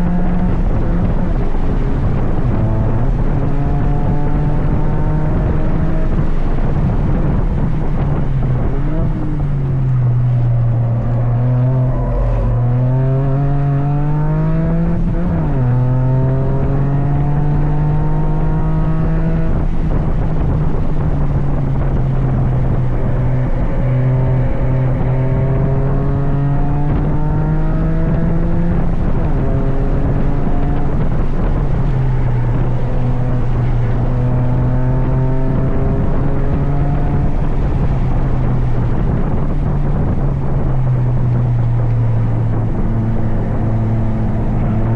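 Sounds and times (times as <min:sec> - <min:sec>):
car engine revving through gears: 0:00.0 - 0:44.9.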